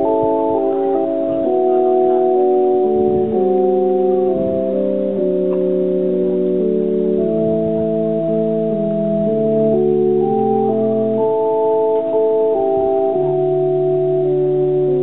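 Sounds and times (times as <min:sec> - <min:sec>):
organ playing slow chords: 0:00.0 - 0:15.0.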